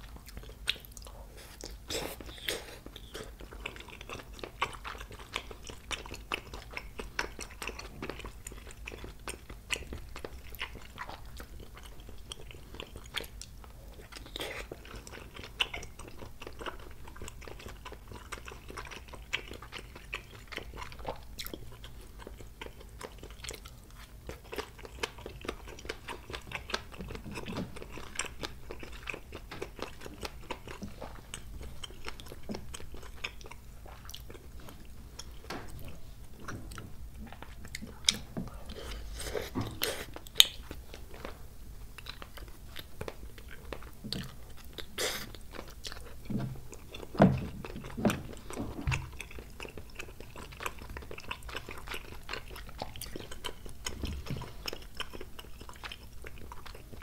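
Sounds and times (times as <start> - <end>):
close-miked chewing and biting: 0.0 - 57.0.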